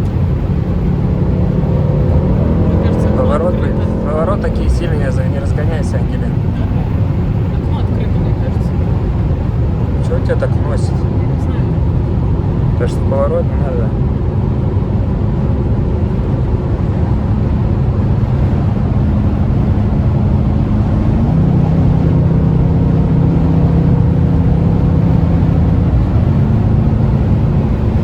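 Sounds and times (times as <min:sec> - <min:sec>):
car engine drone: 0:00.0 - 0:28.0
wind and road noise: 0:00.0 - 0:28.0.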